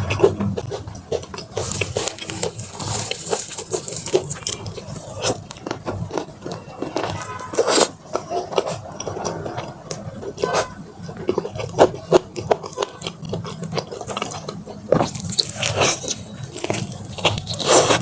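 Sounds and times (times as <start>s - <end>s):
chewing crispy fried chicken: 0.0s - 18.0s.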